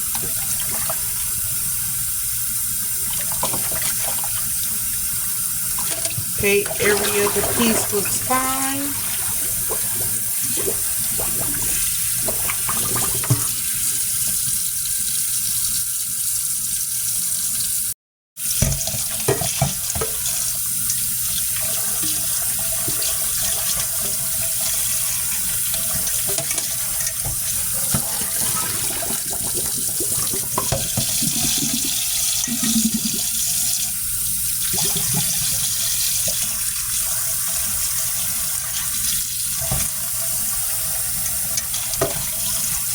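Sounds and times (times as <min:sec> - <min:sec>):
faucet running into sink: 0:00.0 - 0:42.9.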